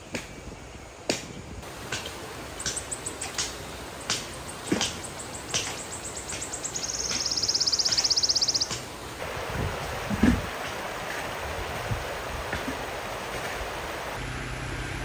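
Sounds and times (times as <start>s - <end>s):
river flowing over stones: 1.6s - 14.2s.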